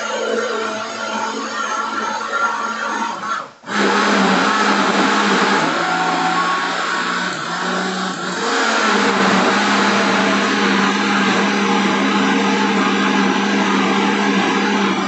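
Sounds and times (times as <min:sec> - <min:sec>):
blender motor humming: 0:00.0 - 0:15.0.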